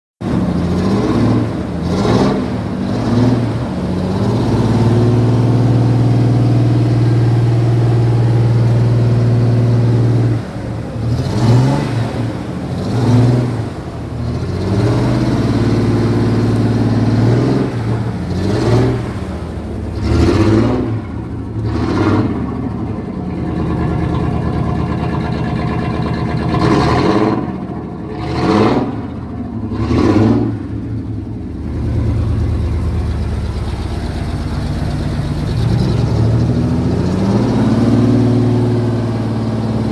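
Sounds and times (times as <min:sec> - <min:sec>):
engine revving: 0:00.2 - 0:39.9.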